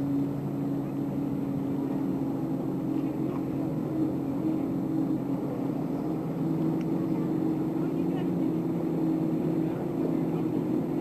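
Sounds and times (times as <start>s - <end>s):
constant tones: 0.0s - 11.0s
low motor hum: 0.0s - 11.0s.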